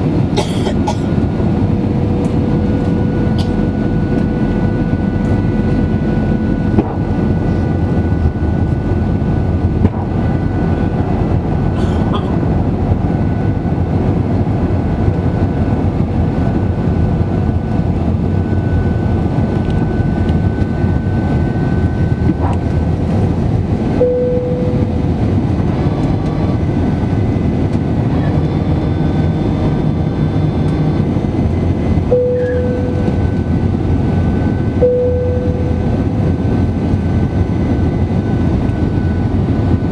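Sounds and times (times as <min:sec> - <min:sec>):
thin steady whine: 0:00.0 - 0:11.9, 0:16.7 - 0:39.9
humming tone: 0:00.0 - 0:39.9
jet engine and airflow rumble: 0:00.0 - 0:39.9.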